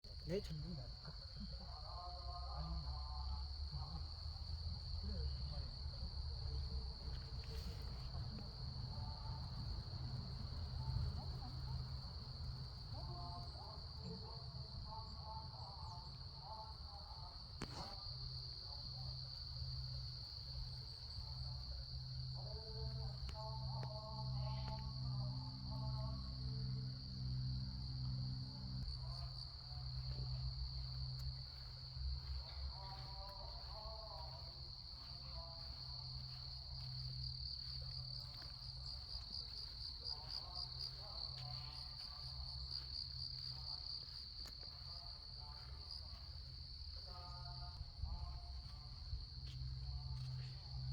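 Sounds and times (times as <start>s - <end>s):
insects trilling: 0.1s - 50.9s.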